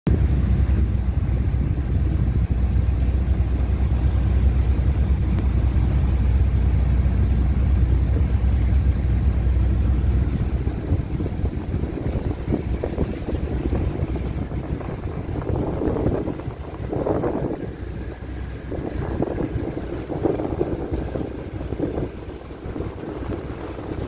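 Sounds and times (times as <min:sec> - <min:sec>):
boat engine droning: 0:00.1 - 0:24.0
wind on microphone: 0:00.1 - 0:24.0.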